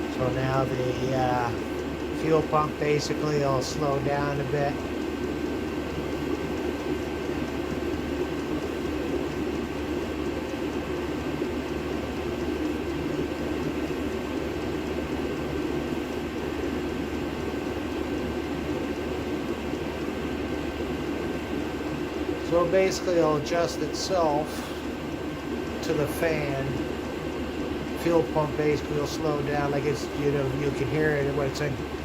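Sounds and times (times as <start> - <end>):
air heater roaring: 0.0 - 32.0
faint steady whine: 0.0 - 32.0.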